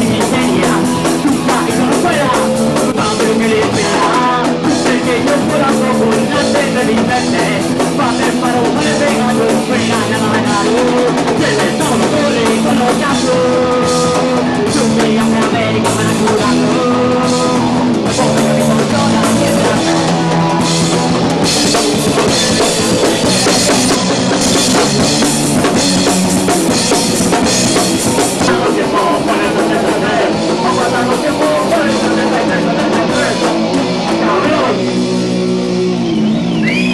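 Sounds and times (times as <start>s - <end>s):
drum kit: 0.0s - 36.9s
rock band playing loud: 0.0s - 36.9s
sustained guitar notes: 0.0s - 36.9s.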